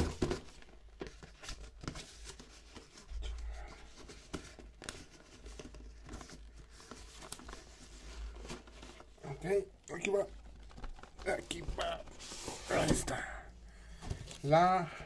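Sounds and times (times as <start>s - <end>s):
cardboard and plastic packaging handled: 0.0s - 14.9s.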